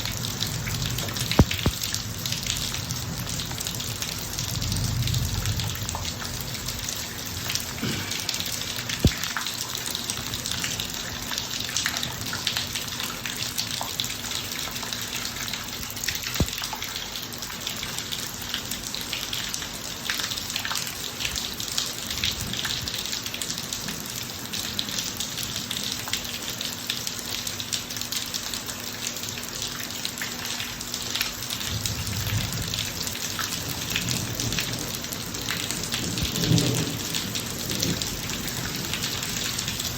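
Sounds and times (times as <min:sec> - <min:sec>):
rain drops ticking: 0:00.0 - 0:39.9
sharp drips: 0:00.0 - 0:39.9.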